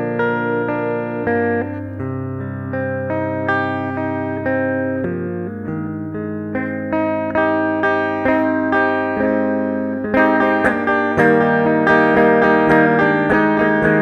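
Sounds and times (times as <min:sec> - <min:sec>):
picked guitar over chords: 0:00.0 - 0:14.0.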